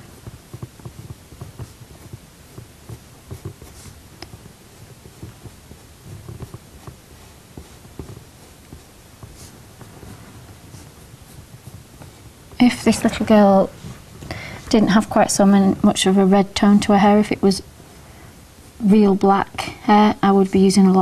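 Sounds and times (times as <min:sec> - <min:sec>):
pencil strokes on paper: 0:00.0 - 0:21.0.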